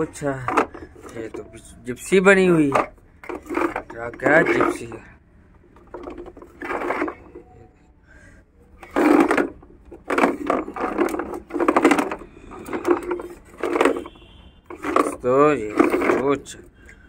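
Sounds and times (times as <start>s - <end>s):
toy jeep wheels clattering: 0.0s - 7.7s, 8.6s - 17.0s.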